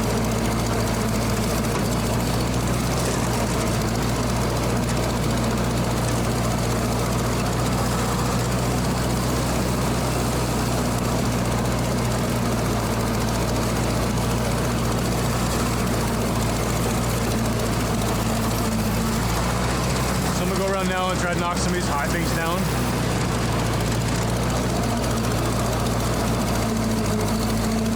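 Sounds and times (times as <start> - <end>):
tractor engine droning: 0.0 - 27.9.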